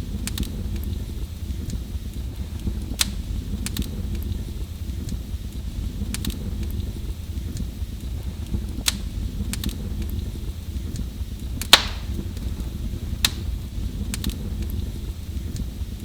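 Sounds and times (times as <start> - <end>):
fire crackles and pops: 0.0 - 16.0
fire rumbling: 0.0 - 16.0.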